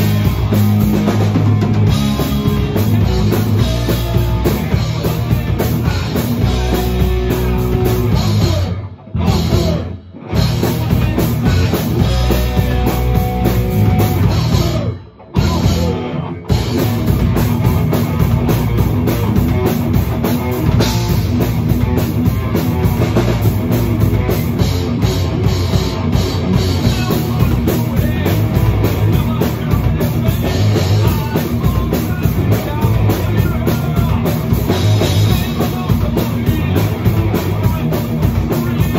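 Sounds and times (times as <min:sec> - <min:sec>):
heavy rock music: 0:00.0 - 0:38.9.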